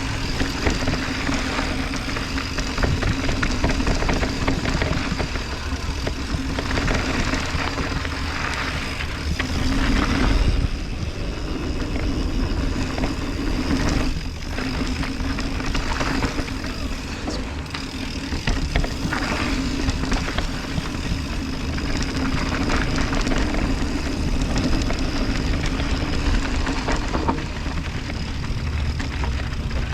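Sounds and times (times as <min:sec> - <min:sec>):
bike rattling over bumps: 0:00.0 - 0:29.9
wind and tyre noise: 0:00.0 - 0:29.9.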